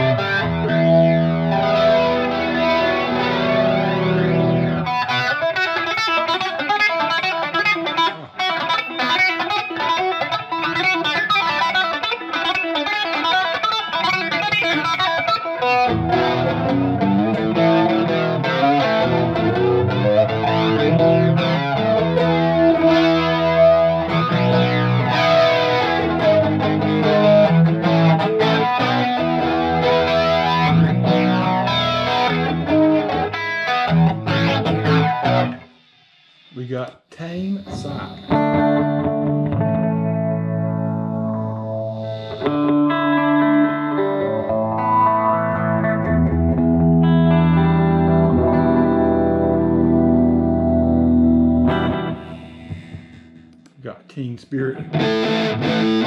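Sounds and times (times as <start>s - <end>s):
electric guitar with flanger: 0.0s - 36.5s, 37.6s - 53.8s, 54.8s - 56.0s.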